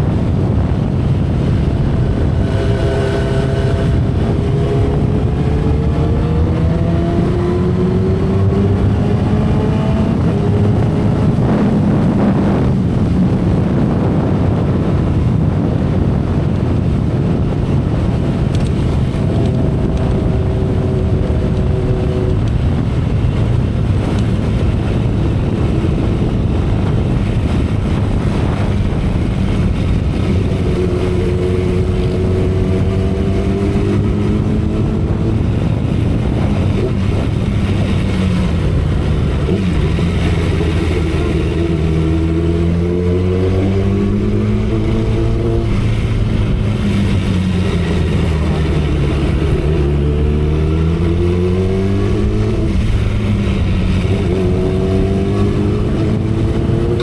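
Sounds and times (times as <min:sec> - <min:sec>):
motorcycle engine cruising: 0:00.0 - 0:57.0
road noise: 0:00.0 - 0:57.0
wind rush: 0:00.0 - 0:57.0.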